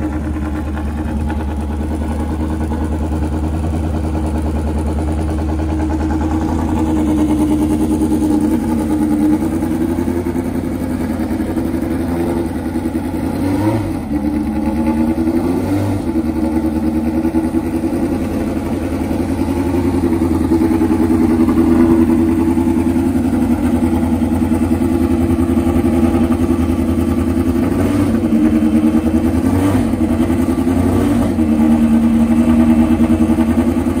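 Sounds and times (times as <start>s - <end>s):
racing car engine idling: 0.0s - 34.0s.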